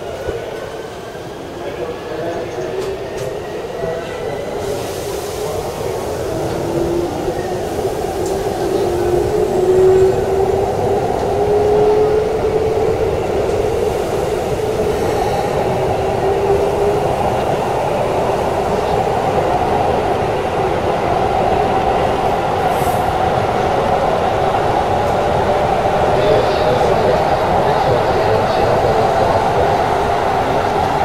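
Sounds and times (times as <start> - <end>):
train wheels running on track: 0.0 - 31.0.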